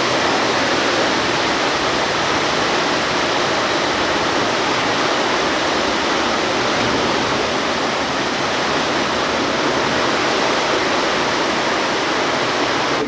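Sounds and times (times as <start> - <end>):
heavy rain and running water: 0.0 - 13.0.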